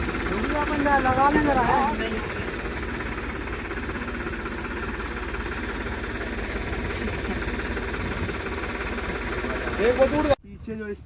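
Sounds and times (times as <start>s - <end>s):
tractor diesel engine idling: 0.0s - 10.4s.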